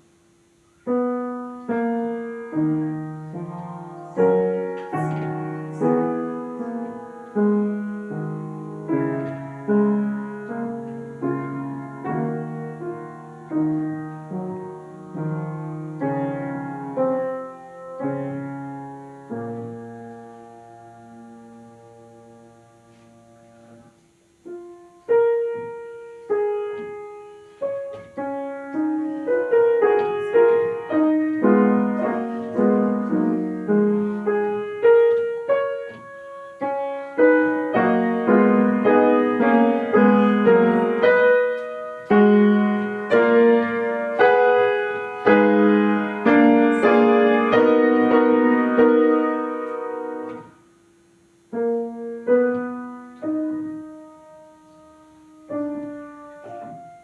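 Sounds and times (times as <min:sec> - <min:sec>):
piano playing classical piece: 0:00.8 - 0:50.6, 0:51.5 - 0:57.0.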